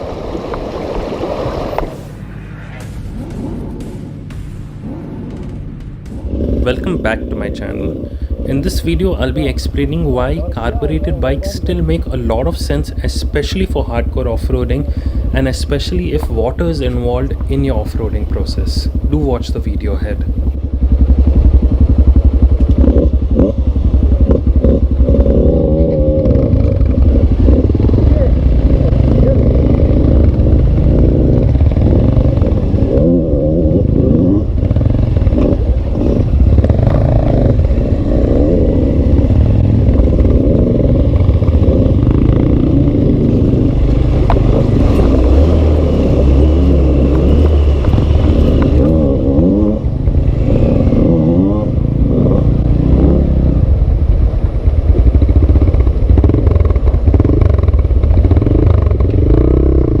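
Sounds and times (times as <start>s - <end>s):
dirt bike engine revving: 1.9s - 60.0s.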